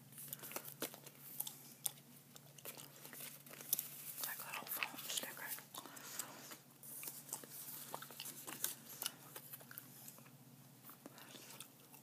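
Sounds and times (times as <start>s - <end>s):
gum chewing: 0.2s - 12.0s.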